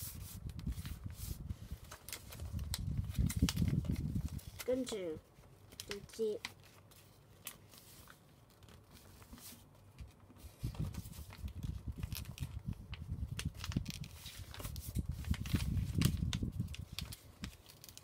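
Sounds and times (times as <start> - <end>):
paper rubbing and rustling: 0.0 - 18.0.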